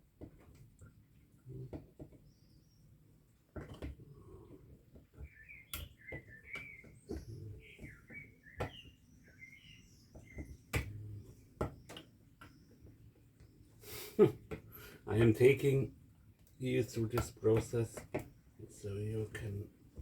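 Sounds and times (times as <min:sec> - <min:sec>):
birds chirping: 0:01.3 - 0:20.0.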